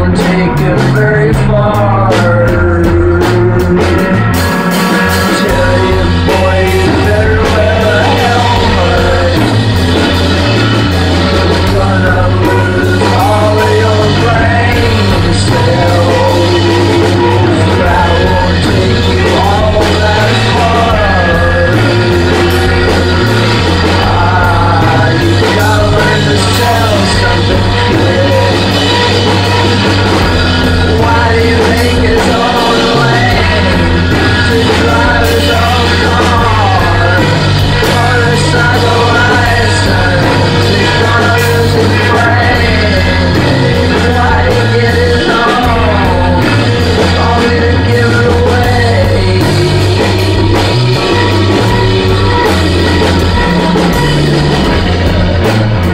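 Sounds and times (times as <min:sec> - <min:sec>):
drums: 0:00.0 - 0:55.9
loud sung vocal: 0:00.0 - 0:55.9
low bass line: 0:00.0 - 0:55.9.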